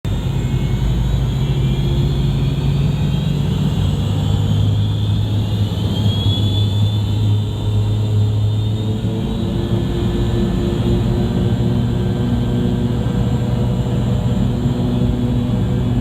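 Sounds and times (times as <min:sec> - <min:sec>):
faint high whine: 0:00.1 - 0:16.0
jet engine cabin hum: 0:00.1 - 0:16.0.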